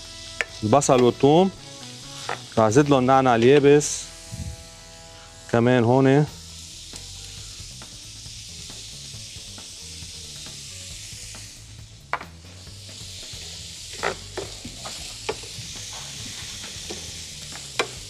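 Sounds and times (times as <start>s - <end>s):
onions frying in oil: 0.0s - 4.3s, 5.0s - 18.0s.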